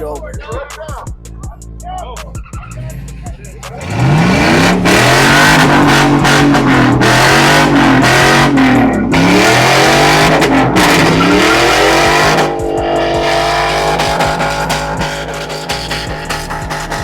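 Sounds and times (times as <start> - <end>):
engine revving hard: 2.6 - 17.0.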